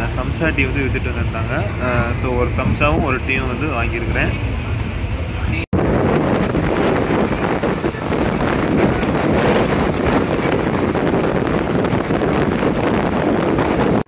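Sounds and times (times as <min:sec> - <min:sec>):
train wheels rumbling on track: 0:00.0 - 0:14.0
wind buffeting microphone: 0:00.0 - 0:14.0.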